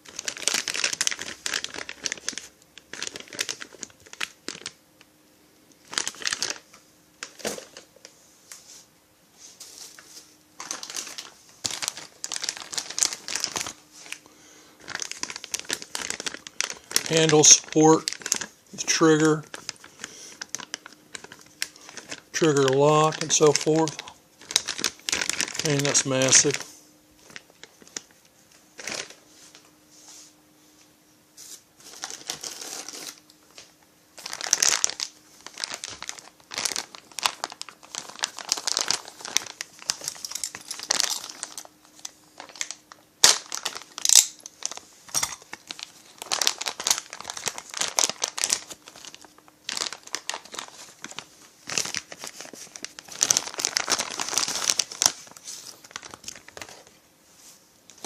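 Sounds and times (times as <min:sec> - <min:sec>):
packaging crinkling: 0:00.0 - 0:04.8, 0:05.8 - 0:07.9, 0:10.6 - 0:29.2, 0:31.8 - 0:57.0.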